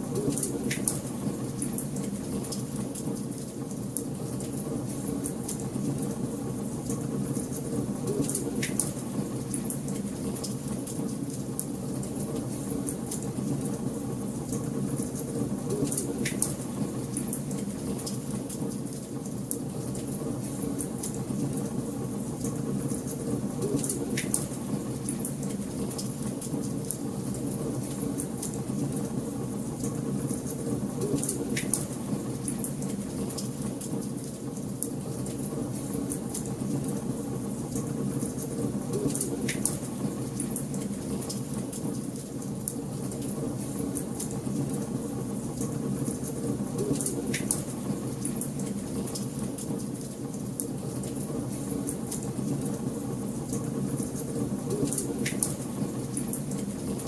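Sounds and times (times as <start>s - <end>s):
wood fire crackling in a fireplace: 0.0s - 57.0s.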